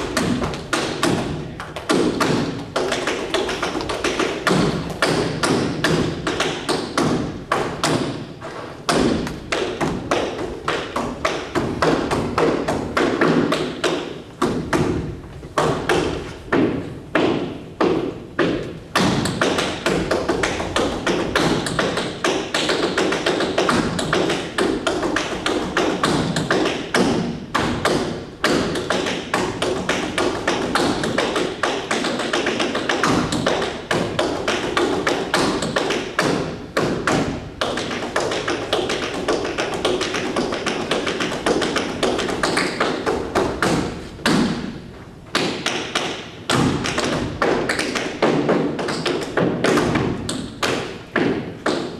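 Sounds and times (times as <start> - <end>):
heavy stomps: 0.0 - 31.5, 32.8 - 51.9.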